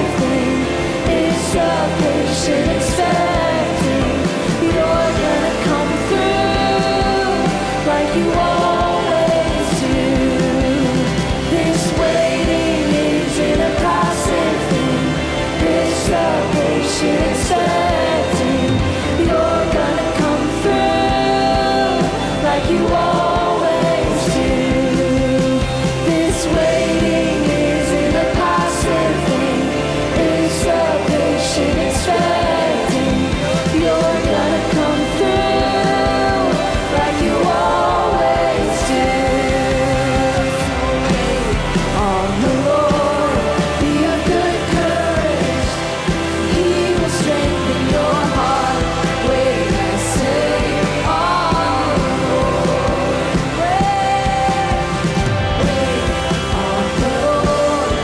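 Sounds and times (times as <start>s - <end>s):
drum beats: 0.0s - 58.0s
keyboards: 0.0s - 58.0s
woman singing slow song: 0.0s - 58.0s.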